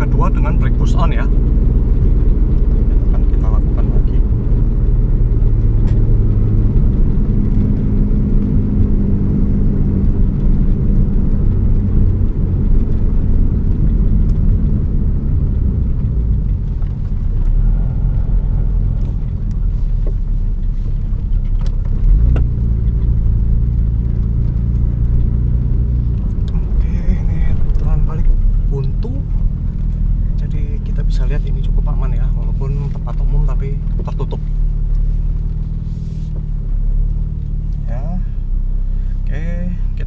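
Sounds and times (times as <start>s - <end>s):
car engine running: 0.0s - 40.0s
road noise inside car: 0.0s - 40.0s.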